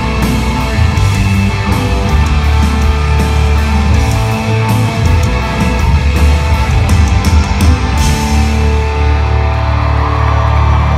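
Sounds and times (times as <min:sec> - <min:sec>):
live rock band playing: 0:00.0 - 0:10.9.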